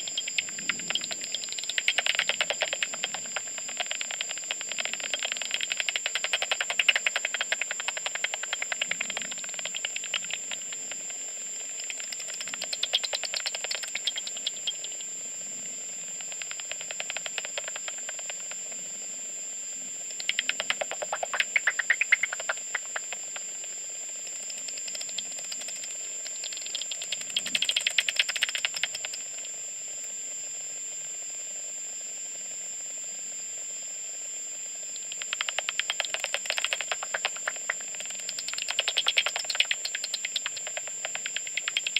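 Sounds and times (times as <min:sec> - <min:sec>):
bat echolocation clicks: 0:00.0 - 0:15.2, 0:16.0 - 0:18.6, 0:20.1 - 0:30.1, 0:34.9 - 0:41.9
steady high tone and hiss: 0:00.0 - 0:41.9.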